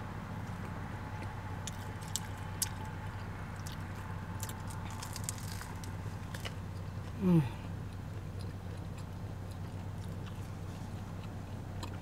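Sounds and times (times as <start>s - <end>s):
steady low hum: 0.0s - 12.0s
person chewing food: 0.4s - 12.0s.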